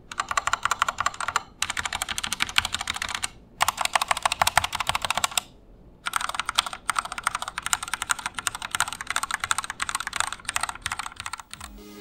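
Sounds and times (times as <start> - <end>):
fast typing on mechanical keyboard: 0.1 - 11.7.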